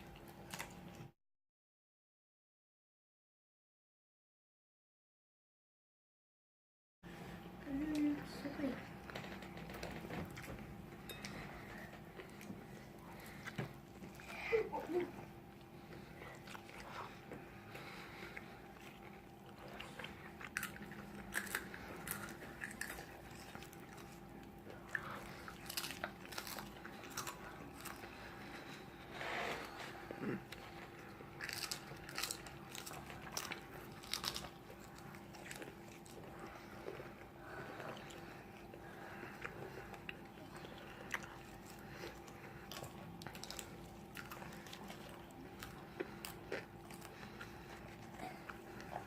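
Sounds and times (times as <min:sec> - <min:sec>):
chewing crunchy fried food: 0:00.0 - 0:01.1, 0:08.0 - 0:49.0.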